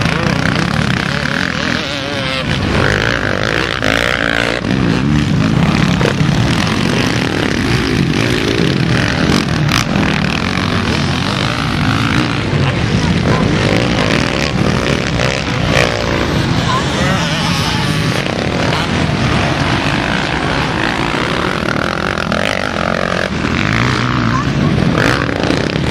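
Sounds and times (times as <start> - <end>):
motocross motorcycles revving: 0.0 - 25.9.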